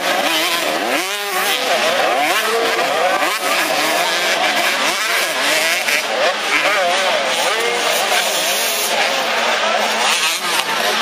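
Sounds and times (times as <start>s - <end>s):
motocross engines revving: 0.0s - 11.0s.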